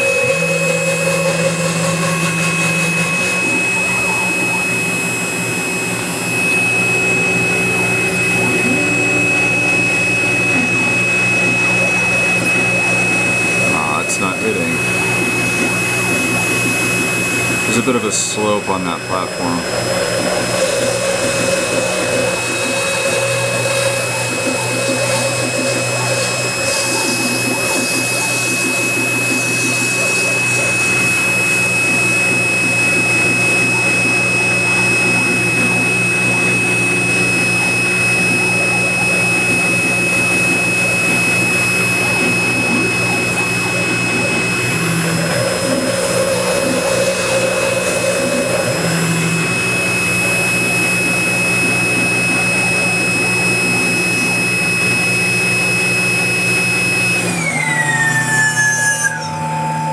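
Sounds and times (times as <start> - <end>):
spindle motor whine: 0.0 - 59.9
stepper motors humming: 0.0 - 59.9.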